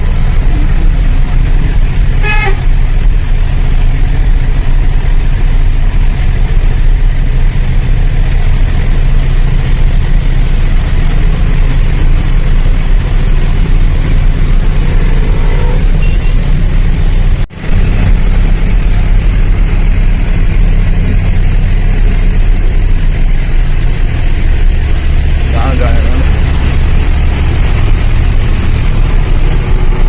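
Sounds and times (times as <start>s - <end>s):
road noise: 0.0s - 30.0s
truck engine rumbling: 0.0s - 30.0s.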